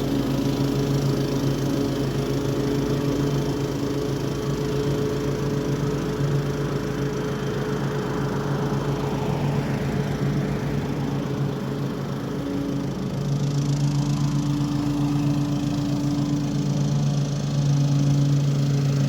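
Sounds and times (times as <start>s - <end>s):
lawn mower mowing grass: 0.0s - 19.0s.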